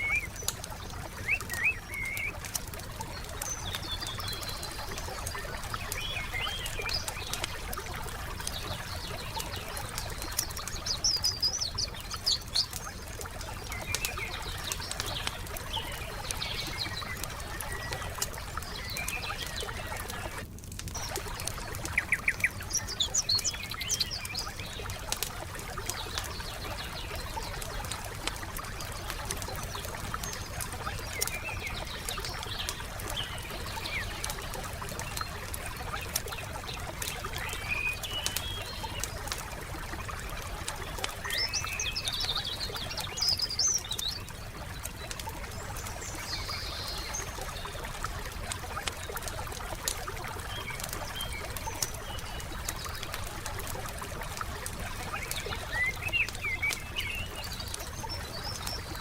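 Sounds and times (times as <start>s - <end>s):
campfire crackling and popping: 0.0s - 59.0s
songbirds chirping: 0.0s - 59.0s.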